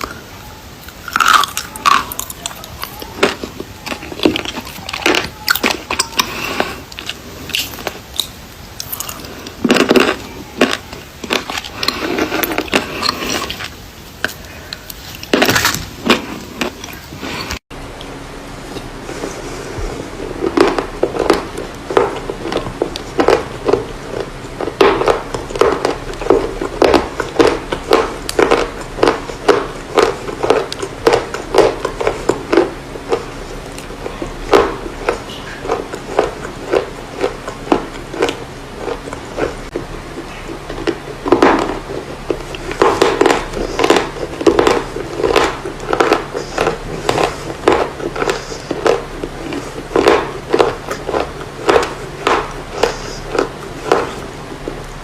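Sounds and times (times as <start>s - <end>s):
chalk and clay crunching when chewed: 0.0s - 17.6s, 19.9s - 55.0s.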